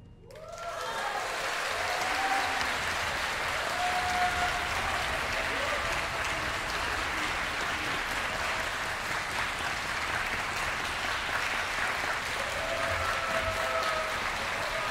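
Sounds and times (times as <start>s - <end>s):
audience applauding: 0.3s - 14.9s.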